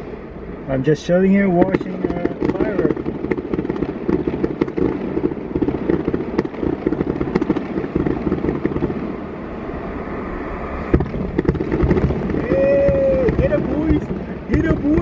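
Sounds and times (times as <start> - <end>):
fireworks bangs and crackles: 0.0 - 9.9, 10.8 - 15.0.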